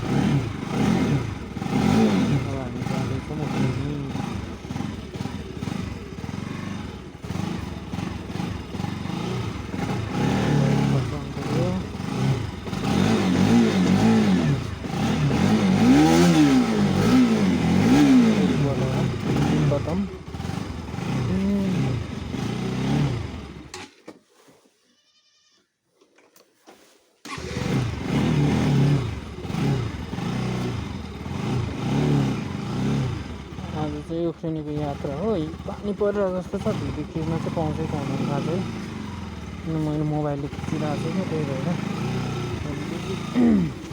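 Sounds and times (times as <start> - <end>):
motorcycle engine running: 0.0 - 23.8, 27.3 - 43.9.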